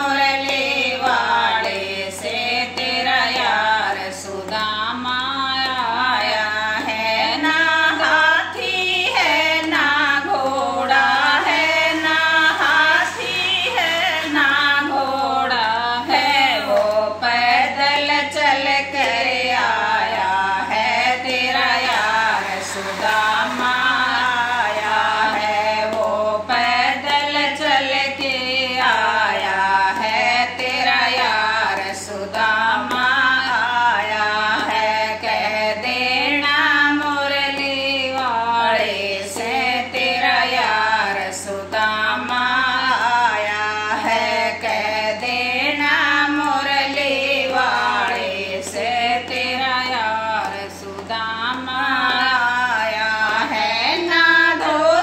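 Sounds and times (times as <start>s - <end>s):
women singing devotional song: 0.0s - 55.0s.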